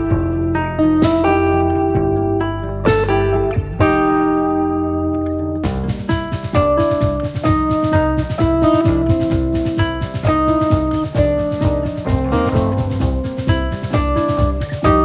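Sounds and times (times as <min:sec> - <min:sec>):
steady drum beat: 0:00.0 - 0:02.2, 0:02.9 - 0:04.1, 0:05.6 - 0:15.0
bass line: 0:00.0 - 0:15.0.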